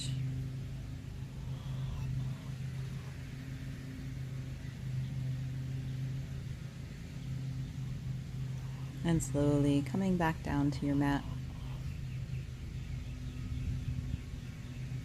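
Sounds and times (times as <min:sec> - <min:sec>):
faint rumble: 0:00.0 - 0:15.0
steady low hum: 0:00.0 - 0:15.0.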